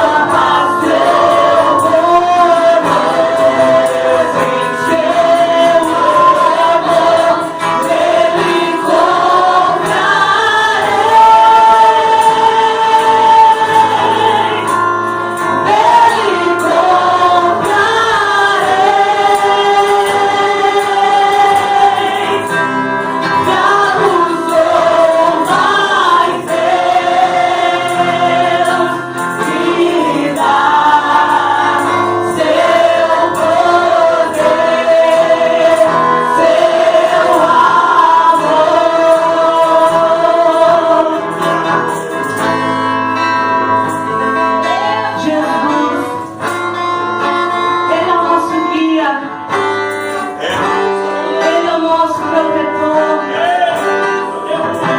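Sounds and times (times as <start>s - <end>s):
choir singing a hymn: 0.0s - 42.8s, 50.4s - 54.9s
instrumental backing: 0.0s - 54.9s.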